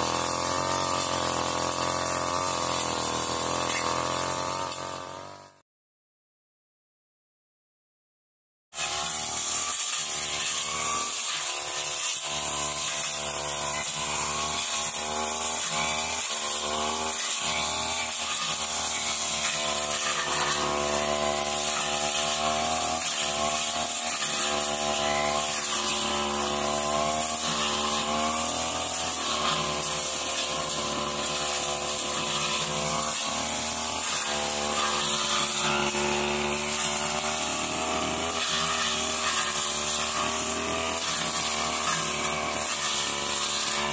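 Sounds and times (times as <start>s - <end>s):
brush cutter engine cutting undergrowth: 0.0s - 5.6s, 8.8s - 43.9s.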